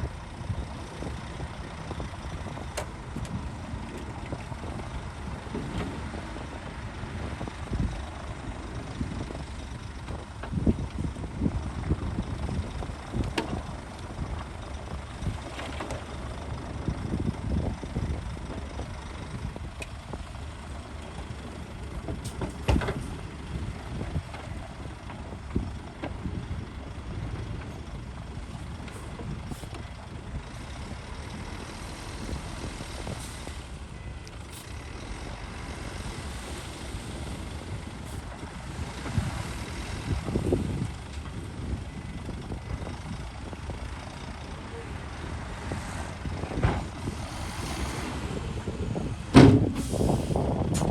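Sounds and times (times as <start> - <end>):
diesel engines rumbling: 0.0 - 50.9.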